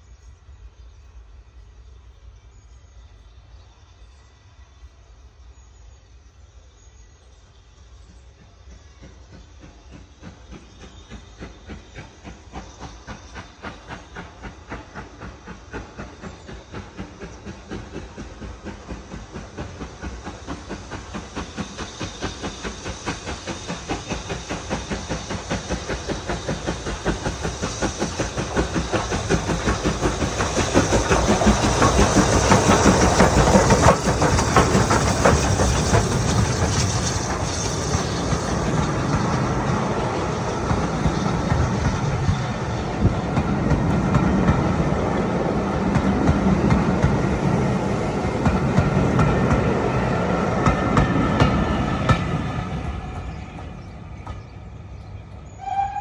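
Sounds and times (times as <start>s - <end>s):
rail noise: 0.0s - 56.0s
steam hiss: 0.0s - 56.0s
steam locomotive chuffing: 5.3s - 56.0s.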